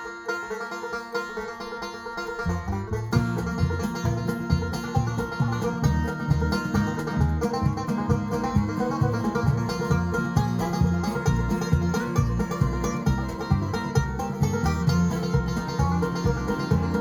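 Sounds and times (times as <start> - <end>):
string band playing upbeat tune: 0.0 - 17.0.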